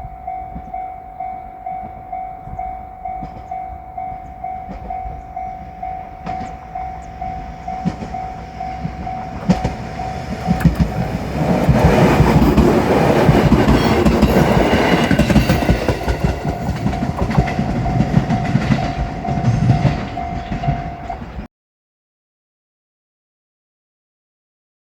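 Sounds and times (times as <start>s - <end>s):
level-crossing alarm ringing: 0.0s - 21.5s
train wheels rumbling on track: 0.0s - 21.5s.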